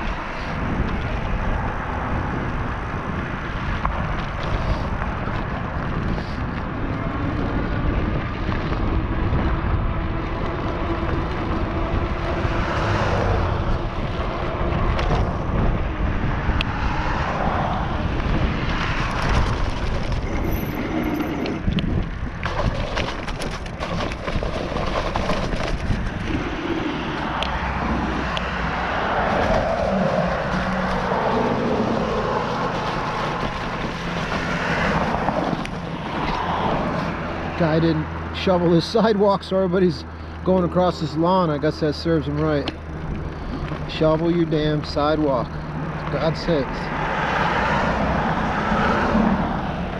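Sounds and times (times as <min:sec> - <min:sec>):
tyres rumbling on ground: 0:00.0 - 0:49.9
wind buffeting microphone: 0:00.0 - 0:49.9.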